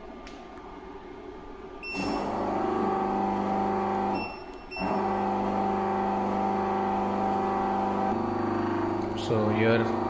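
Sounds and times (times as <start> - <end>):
suction pump humming: 1.8 - 10.0.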